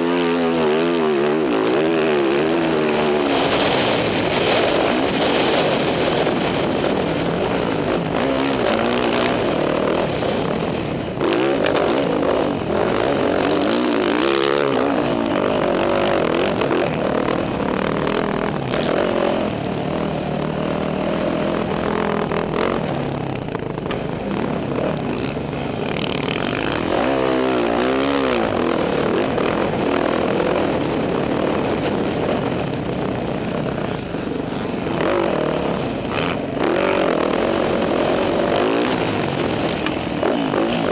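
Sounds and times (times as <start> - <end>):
constant rushing noise: 0.0 - 40.9
dirt bike engine revving: 0.0 - 40.9.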